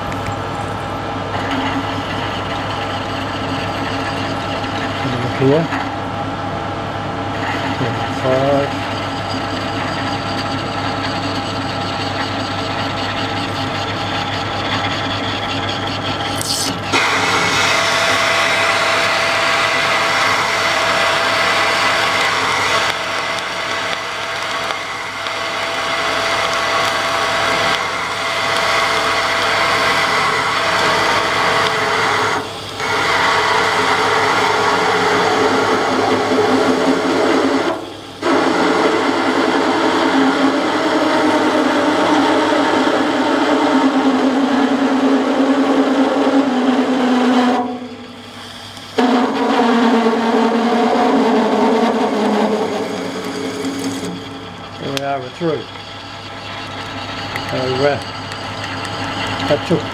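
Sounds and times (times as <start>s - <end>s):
lathe drilling steel: 0.6s - 59.9s.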